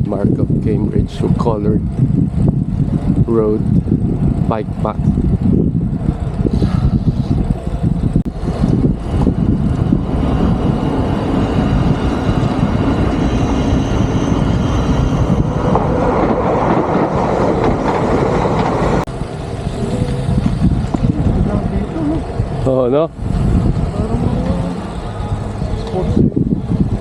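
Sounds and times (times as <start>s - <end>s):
bike tyres rolling on road: 0.0s - 6.6s, 7.4s - 27.0s
wind on microphone: 0.0s - 27.0s.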